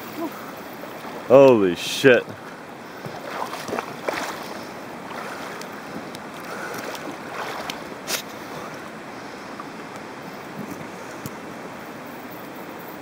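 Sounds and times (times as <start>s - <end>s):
fast-flowing river rushing: 0.0s - 12.2s.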